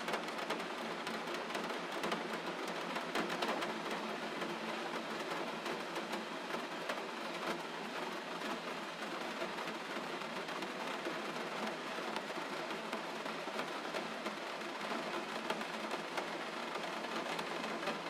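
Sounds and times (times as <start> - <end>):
gentle rain: 0.0 - 18.0.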